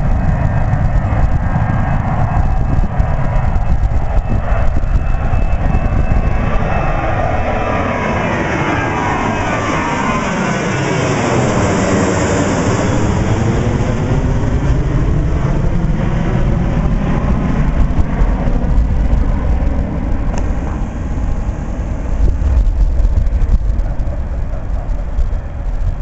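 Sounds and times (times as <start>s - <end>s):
jet engines passing overhead: 0.0s - 26.0s.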